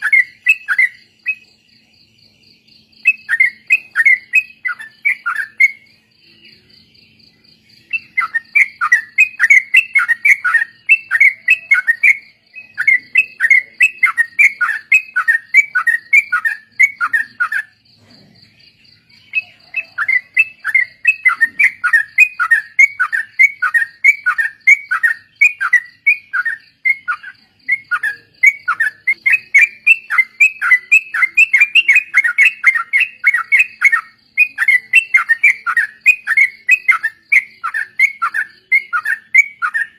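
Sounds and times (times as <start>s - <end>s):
bulbuls singing chattering notes: 0.0s - 39.9s.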